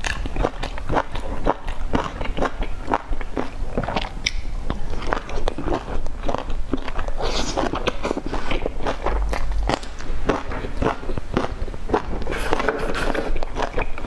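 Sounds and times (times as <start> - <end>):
wet chewing and mouth smacks: 0.0 - 14.0.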